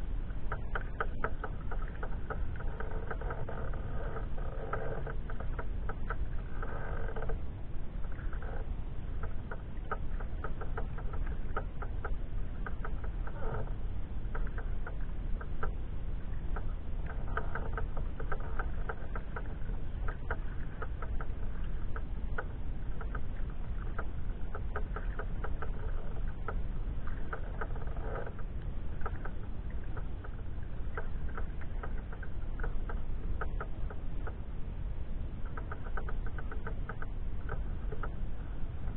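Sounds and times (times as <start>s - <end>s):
water lapping against kayak: 0.0s - 38.9s.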